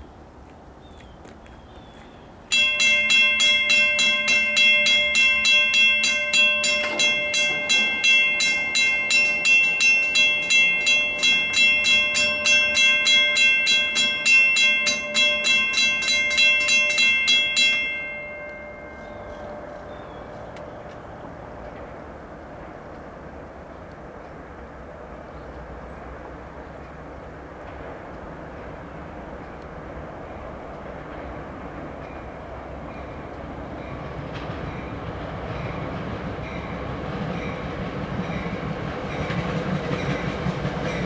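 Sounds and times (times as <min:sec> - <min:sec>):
railroad crossing bell ringing: 0:02.5 - 0:22.8, 0:27.8 - 0:41.0.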